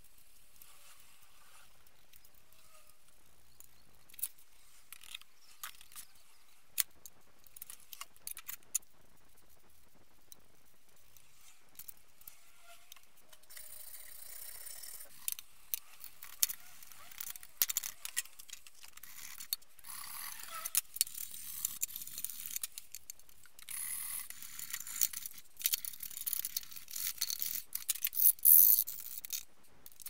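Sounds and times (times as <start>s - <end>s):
soft steady hiss: 0.0s - 30.0s.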